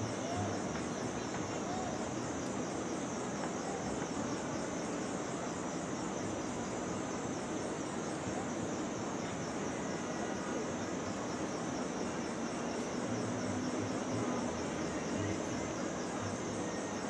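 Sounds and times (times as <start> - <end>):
high wavering hiss: 0.0 - 17.0.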